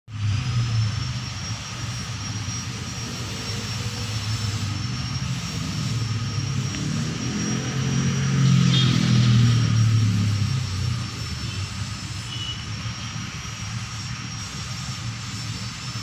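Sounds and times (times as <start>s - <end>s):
low hum: 0.1s - 15.9s.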